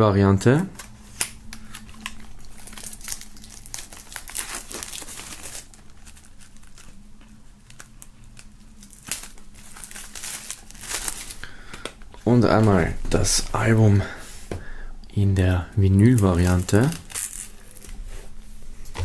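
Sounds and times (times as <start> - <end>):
plastic shrink-wrap crinkling: 0.6 - 13.7, 15.9 - 18.1.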